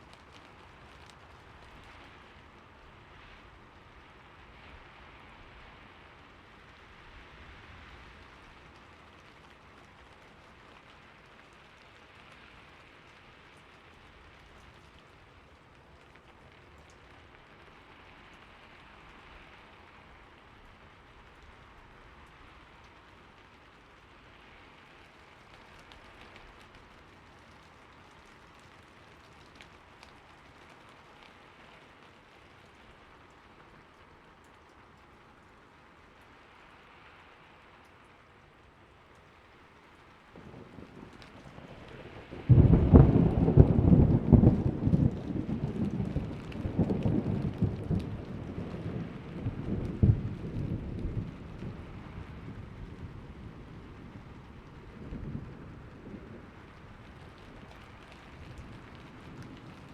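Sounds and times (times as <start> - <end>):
raindrops ticking: 0.0 - 2.6, 8.1 - 36.5, 37.8 - 59.9
soft rain falling: 0.0 - 59.9.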